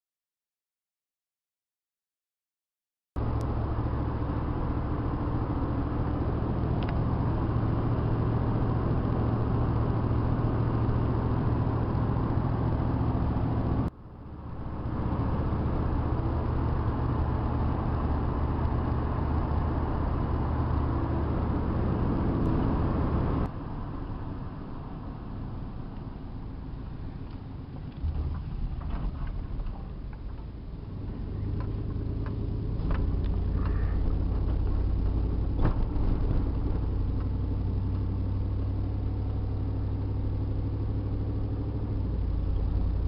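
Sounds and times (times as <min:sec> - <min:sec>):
vehicle engine and road drone: 0:03.2 - 0:43.0.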